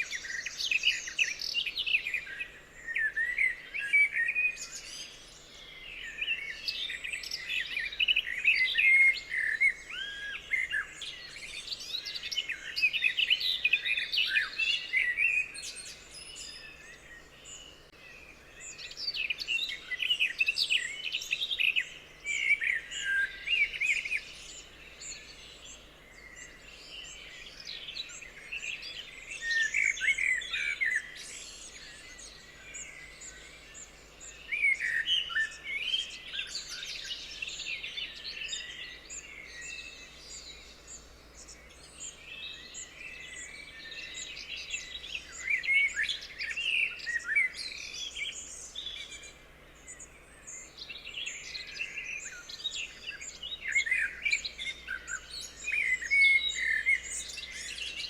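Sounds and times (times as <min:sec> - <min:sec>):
faint steady hiss: 0:00.0 - 0:58.0
songbirds chirping and singing: 0:00.0 - 0:58.0.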